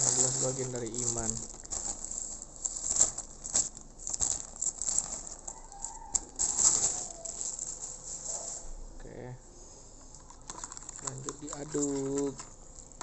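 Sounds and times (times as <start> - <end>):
plastic wrappers crinkling: 0.0 - 8.8, 10.1 - 13.0.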